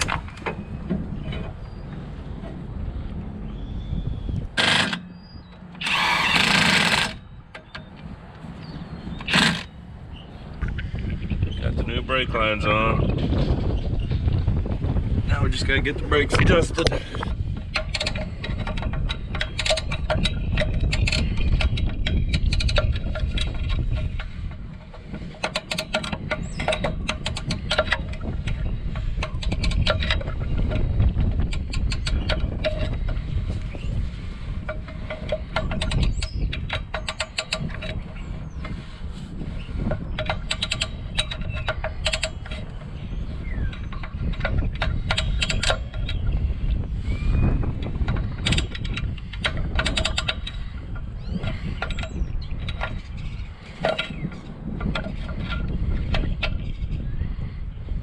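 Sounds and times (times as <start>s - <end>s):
wind on microphone: 0.0s - 58.0s.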